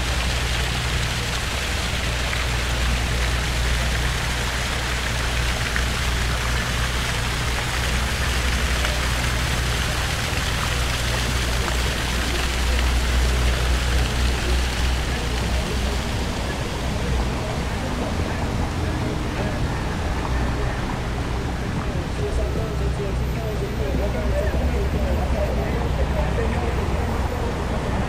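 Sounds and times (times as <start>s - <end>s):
steady rushing street noise: 0.0s - 28.0s.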